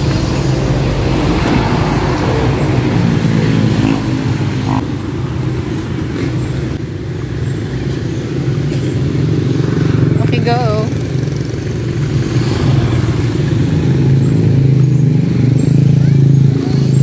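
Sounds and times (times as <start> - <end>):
street traffic noise: 0.0 - 17.0
vehicle engine running: 0.0 - 17.0.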